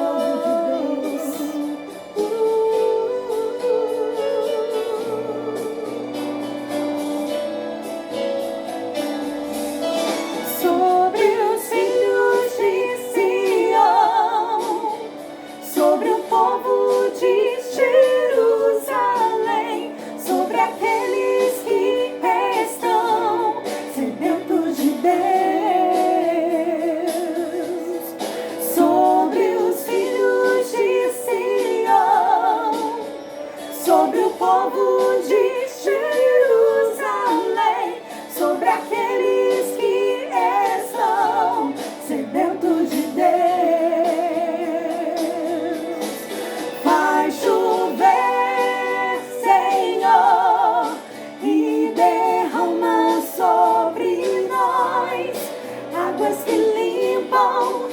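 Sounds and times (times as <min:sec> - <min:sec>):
women singing with vibrato: 0:00.0 - 0:57.9.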